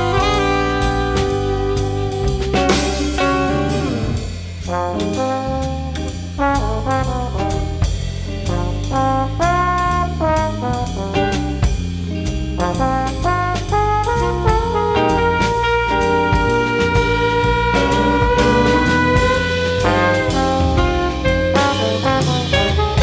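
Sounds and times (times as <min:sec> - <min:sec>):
bass: 0:00.0 - 0:23.0
brass horns melody: 0:00.0 - 0:23.0
drum kit: 0:00.0 - 0:23.0
jazz band playing: 0:00.0 - 0:23.0.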